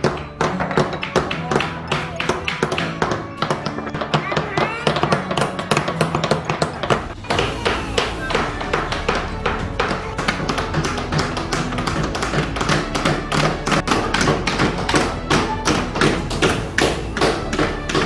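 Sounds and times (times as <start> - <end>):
hammers striking nails into wood: 0.0 - 18.0.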